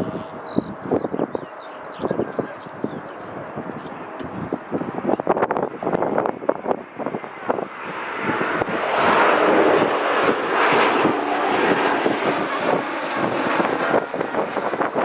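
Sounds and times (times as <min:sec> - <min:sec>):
jet airliner passing: 0:00.0 - 0:15.0
wind thumps on microphone: 0:00.0 - 0:15.0.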